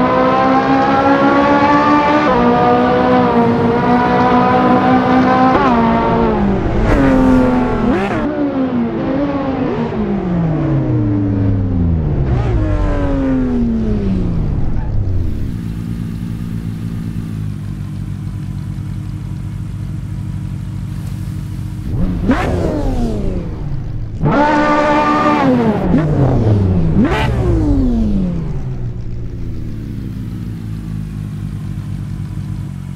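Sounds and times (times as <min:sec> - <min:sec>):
sports car engine idling and revving: 0:00.0 - 0:32.9.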